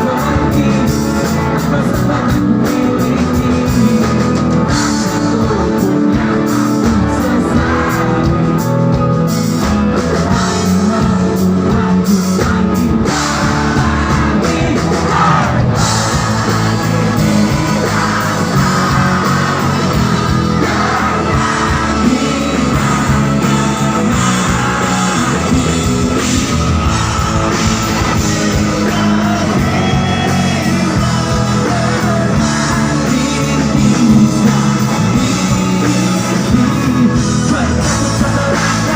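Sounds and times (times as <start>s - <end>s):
person singing: 0.0s - 9.2s, 10.0s - 38.9s
drum kit: 0.0s - 38.9s
electric guitar: 0.0s - 38.9s.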